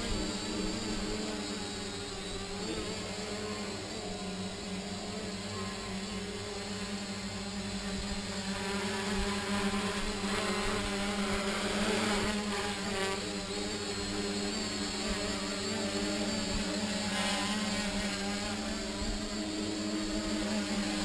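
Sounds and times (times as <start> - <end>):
drone motors and propellers humming: 0.0 - 21.0.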